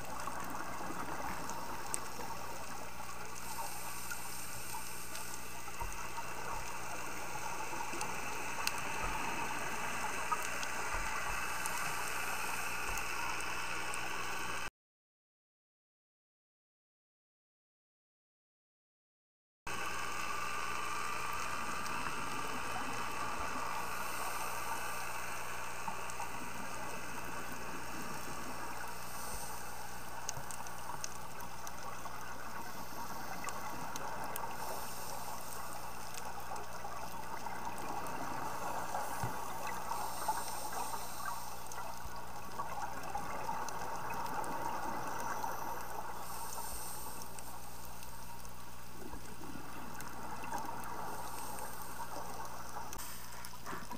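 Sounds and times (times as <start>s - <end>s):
muffled underwater noise: 0.0s - 14.7s, 19.7s - 53.9s.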